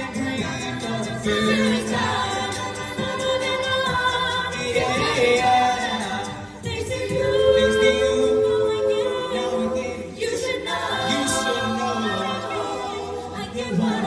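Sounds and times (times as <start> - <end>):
a cappella group singing: 0.0 - 14.0.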